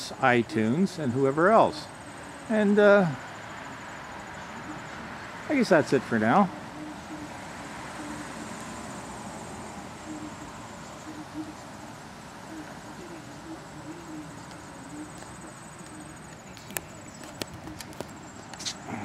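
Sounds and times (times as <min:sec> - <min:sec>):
faint insect trill: 0:00.0 - 0:19.0
low wavering hooting call: 0:00.0 - 0:19.0.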